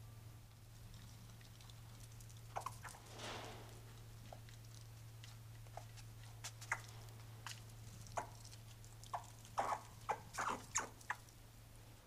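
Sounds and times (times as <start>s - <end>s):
faint low hum: 0.0s - 12.0s
squirrels gnawing chocolate: 0.5s - 11.6s.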